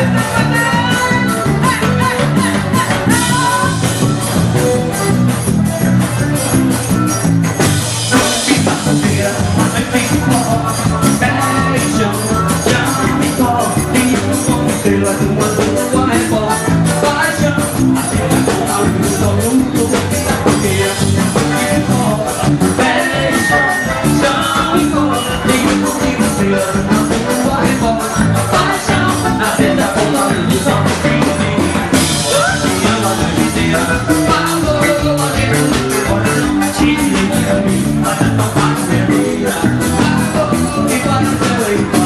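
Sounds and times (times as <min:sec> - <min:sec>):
fast percussion beat: 0:00.0 - 0:42.0
live band music: 0:00.0 - 0:42.0.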